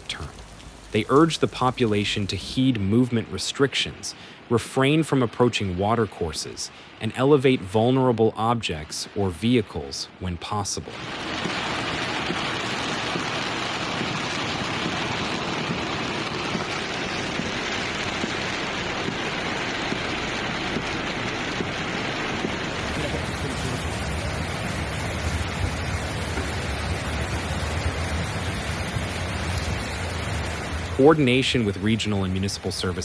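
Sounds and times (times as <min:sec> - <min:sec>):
heavy rain and floodwater rushing: 0:00.0 - 0:33.0.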